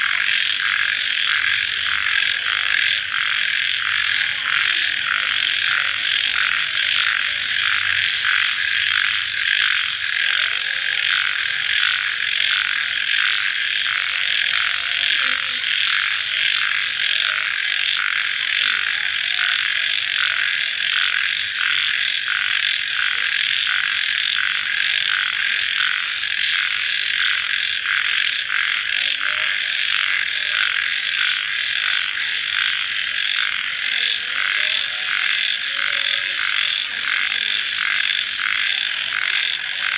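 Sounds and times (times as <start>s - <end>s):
faint low animal calls: 0.0s - 39.9s.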